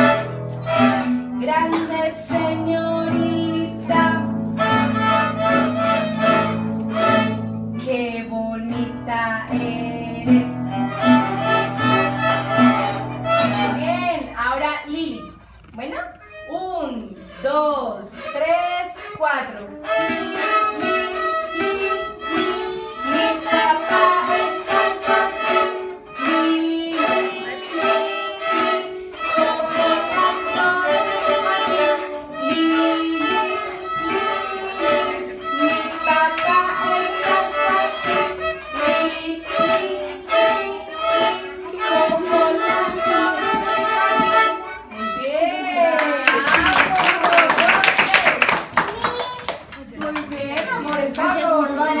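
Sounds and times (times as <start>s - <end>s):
violins playing a tune: 0.0s - 45.7s.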